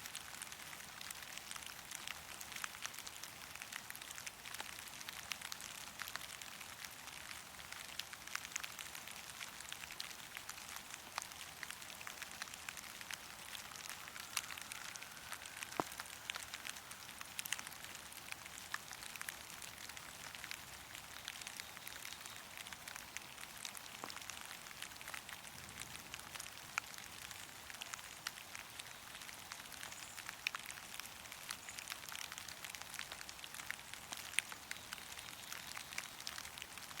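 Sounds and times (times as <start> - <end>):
steady rain hiss: 0.0 - 37.0
raindrops tapping: 0.4 - 37.0.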